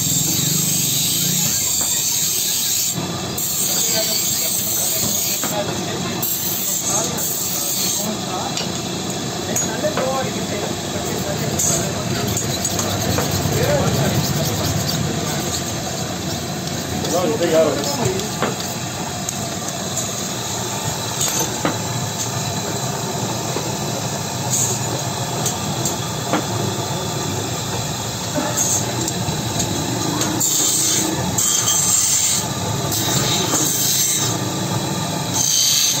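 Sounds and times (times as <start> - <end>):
machinery rumbling and hissing: 0.0 - 36.0.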